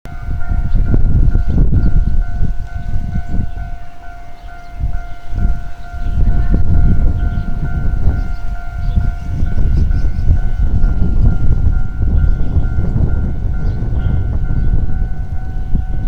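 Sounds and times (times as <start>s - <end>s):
diesel railcar rumble: 0.0s - 16.0s
steady high tone: 0.1s - 16.0s.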